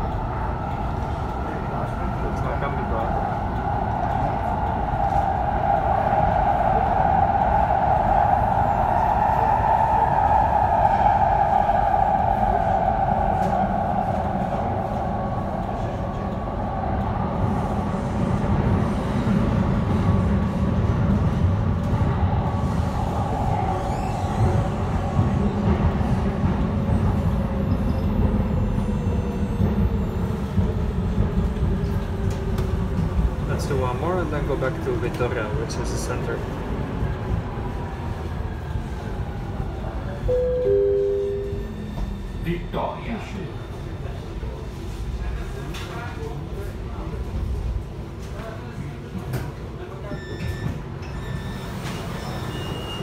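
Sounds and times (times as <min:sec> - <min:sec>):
metro train rumbling in tunnel: 0:00.0 - 0:53.0.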